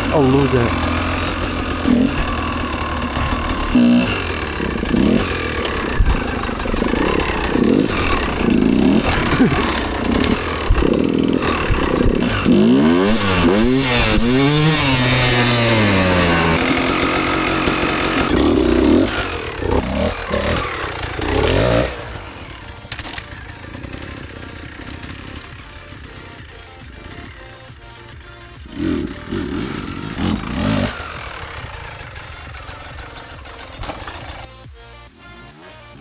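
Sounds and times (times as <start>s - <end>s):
motorcycle engine revving: 0.0s - 34.7s.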